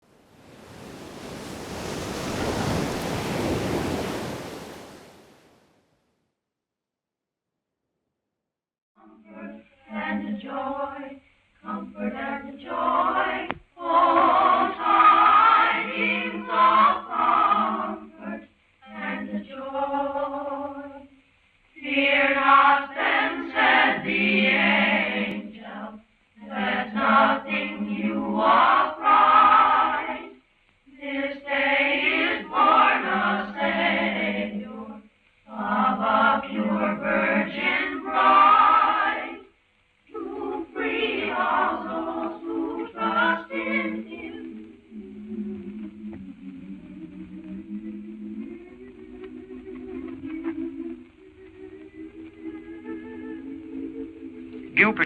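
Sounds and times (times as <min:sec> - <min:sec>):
choir singing: 0:00.5 - 0:05.1, 0:09.0 - 0:21.1, 0:21.8 - 0:39.5, 0:40.1 - 0:55.0.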